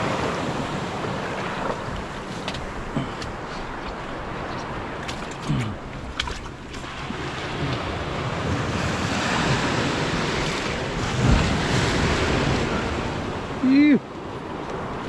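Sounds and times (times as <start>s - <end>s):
surf washing around boat hull: 0.0s - 15.0s.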